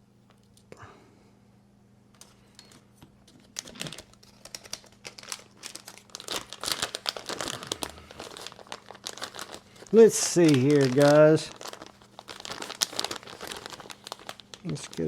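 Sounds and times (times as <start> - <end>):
plastic packaging crinkling: 2.2 - 15.0.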